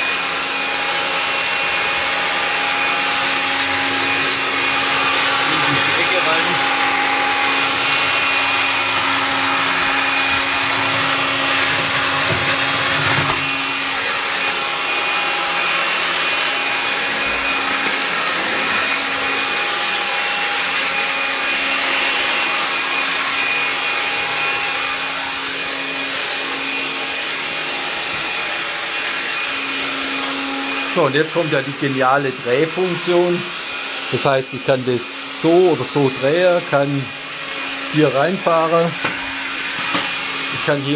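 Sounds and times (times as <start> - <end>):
brush head working floor: 0.0 - 40.9
vacuum motor whine and hiss: 0.0 - 40.9.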